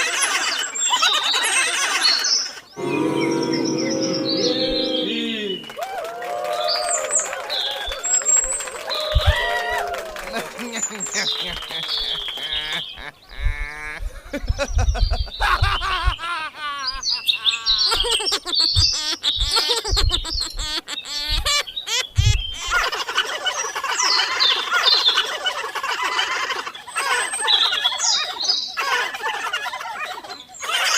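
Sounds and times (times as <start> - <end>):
small birds chirping and squawking: 0.0 - 5.3, 10.5 - 30.9.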